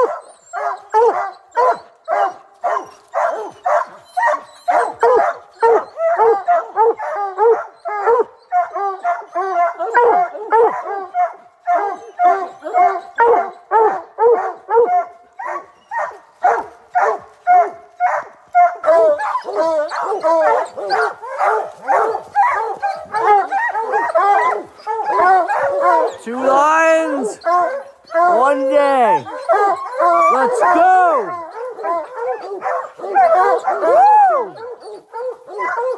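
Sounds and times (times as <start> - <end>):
dogs barking and baying: 0.0 - 35.9.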